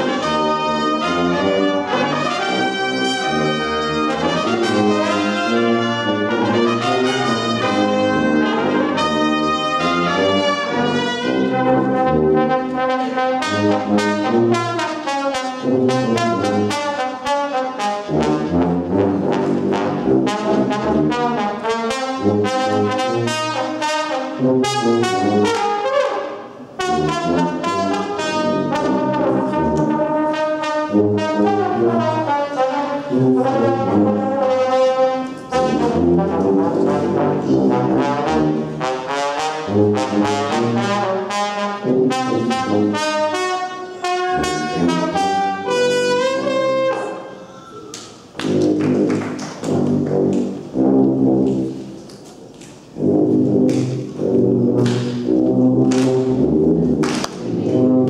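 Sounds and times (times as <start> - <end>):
brass ensemble playing: 0.0 - 47.5, 48.2 - 58.0.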